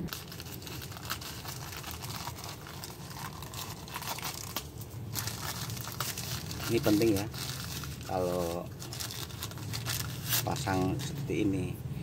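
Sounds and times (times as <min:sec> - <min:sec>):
plastic bag crinkling and tearing: 0:00.0 - 0:11.4.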